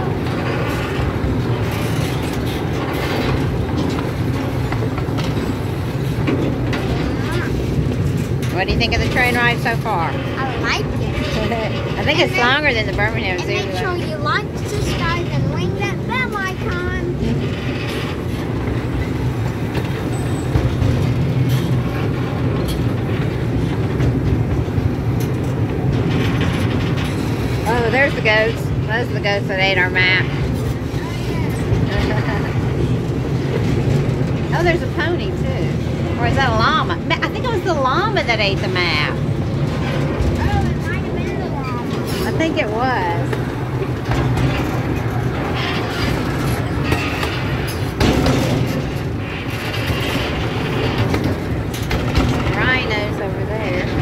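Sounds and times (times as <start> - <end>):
miniature train rumble and drone: 0.0 - 54.0
train wheels clicking: 0.0 - 54.0.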